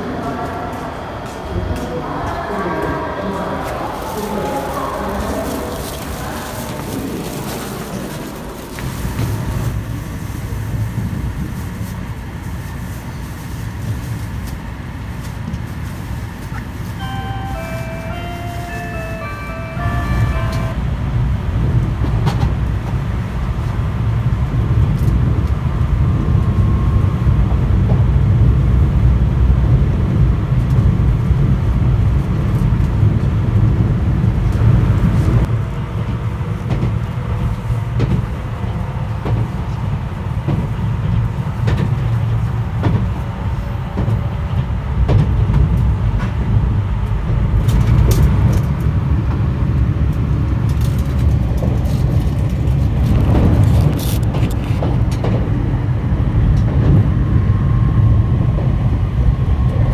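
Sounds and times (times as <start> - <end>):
train rumble from inside: 0.0 - 59.9.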